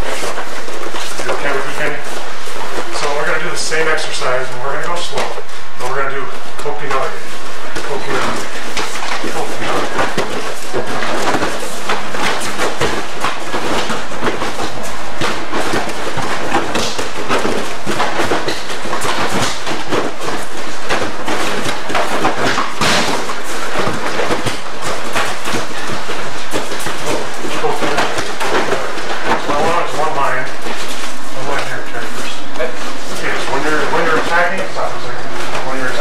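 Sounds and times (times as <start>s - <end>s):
footfalls: 6.6s - 36.0s.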